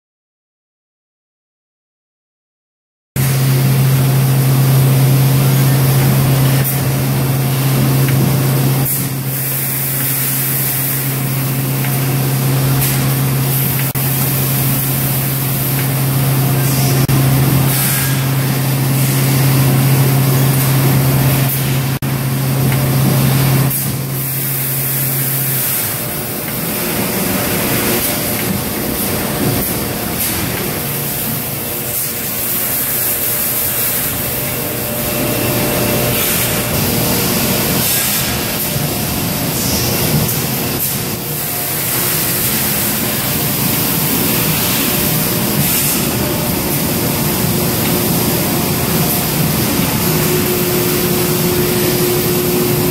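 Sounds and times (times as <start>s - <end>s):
bottle line machinery: 3.2s - 52.9s
loud low hum: 3.2s - 52.9s.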